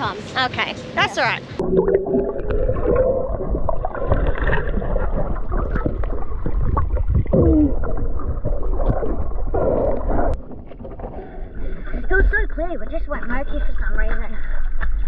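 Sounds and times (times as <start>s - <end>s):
underwater bubbling: 1.5s - 15.0s
low underwater rumble: 1.6s - 15.0s.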